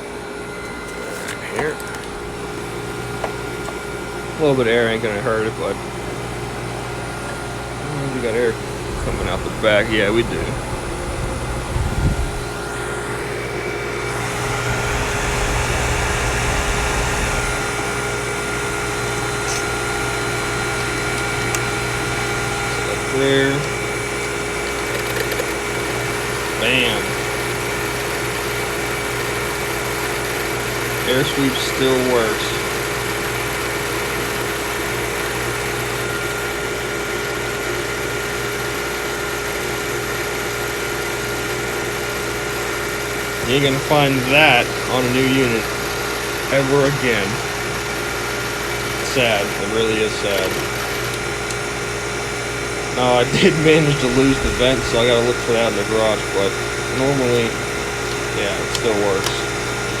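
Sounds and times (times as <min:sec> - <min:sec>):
air conditioner fan blowing: 0:00.0 - 1:00.0
compressor humming: 0:00.0 - 1:00.0.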